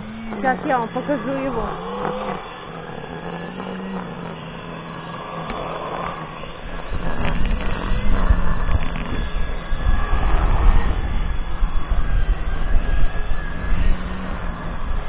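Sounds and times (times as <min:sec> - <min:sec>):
lawn mower motor whining: 0:00.0 - 0:15.0
wind buffeting microphone: 0:00.0 - 0:15.0.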